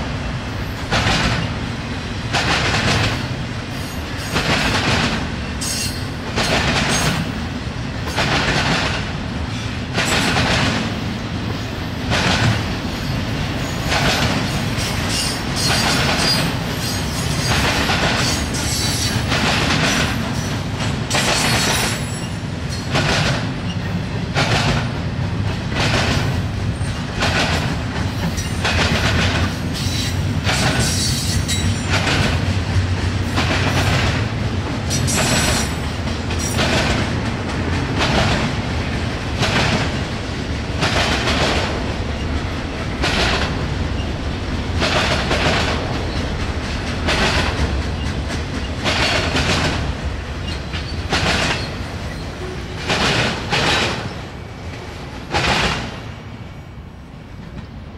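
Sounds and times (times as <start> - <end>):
train rumble: 0.0 - 57.9
train wheels clacking over rail joints: 0.8 - 1.6, 2.3 - 7.4, 8.0 - 56.1.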